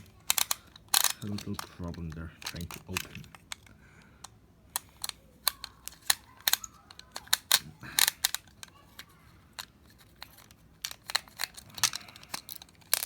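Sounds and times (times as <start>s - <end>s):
plastic toy clicks and taps: 0.0s - 13.0s.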